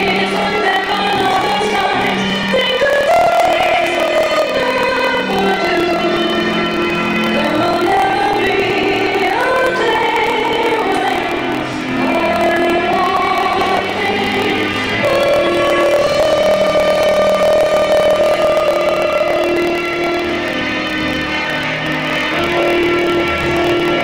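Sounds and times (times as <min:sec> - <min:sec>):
woman singing into microphone: 0:00.0 - 0:20.6
backing music: 0:00.0 - 0:24.0.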